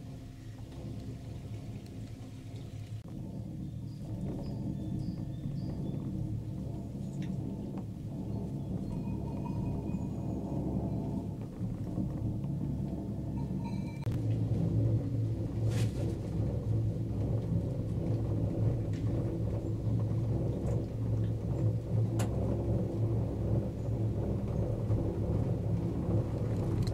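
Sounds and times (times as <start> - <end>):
gondola cabin rumble and hum: 0.0 - 26.9.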